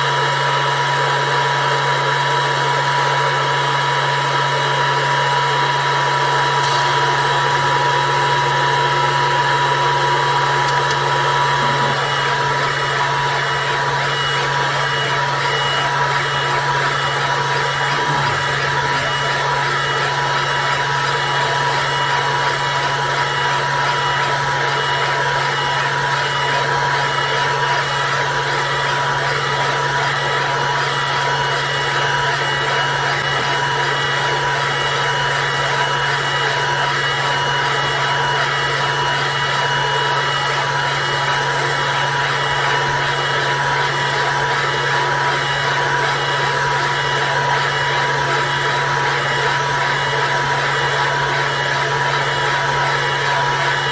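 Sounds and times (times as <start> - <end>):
laser engraver fans and motors whirring: 0.0 - 53.9.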